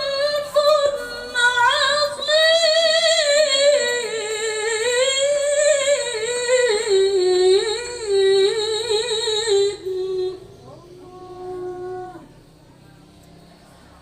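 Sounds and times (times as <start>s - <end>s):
woman chanting melodically: 0.0s - 13.8s.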